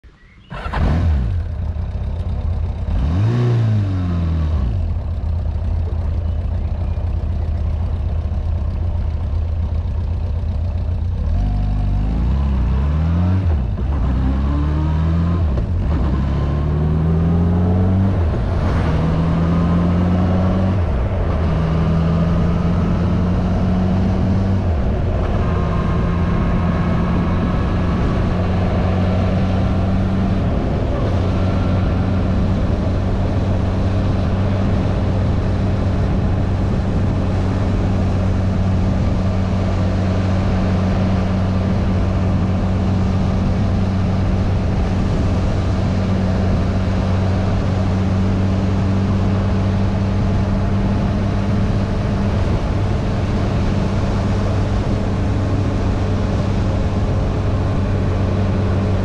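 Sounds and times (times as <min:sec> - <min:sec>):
motorcycle engine revving and shifting: 0:00.4 - 0:59.0.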